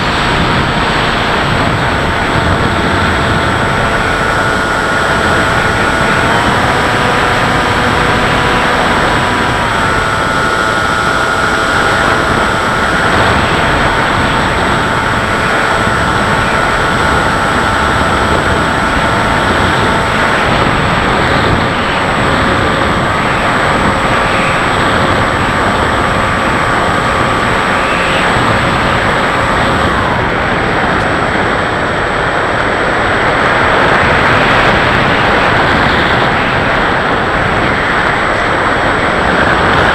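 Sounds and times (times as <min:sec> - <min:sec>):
electric motor and propeller whine: 0:00.0 - 0:39.9
wind rush: 0:00.0 - 0:39.9.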